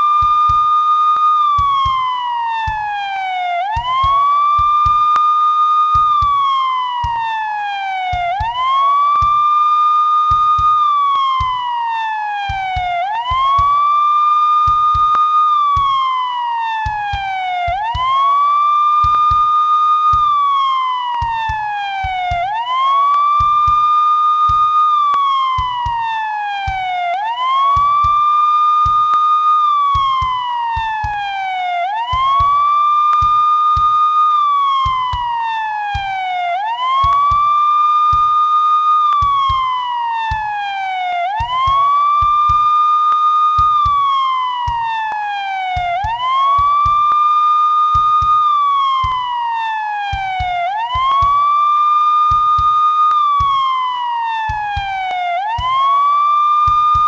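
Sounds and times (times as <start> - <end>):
police siren slow wail: 0.0 - 57.0.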